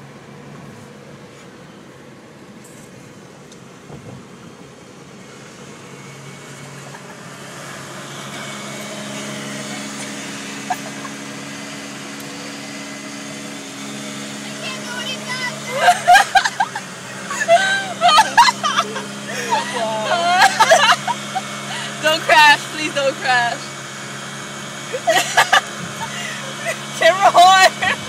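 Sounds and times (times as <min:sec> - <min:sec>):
car engine hum: 0:00.0 - 0:28.0
road noise inside car: 0:00.0 - 0:28.0.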